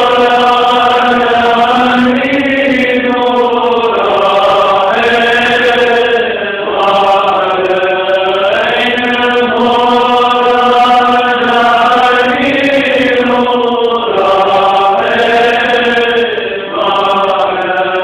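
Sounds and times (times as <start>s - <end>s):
men chanting prayer: 0.0s - 18.0s.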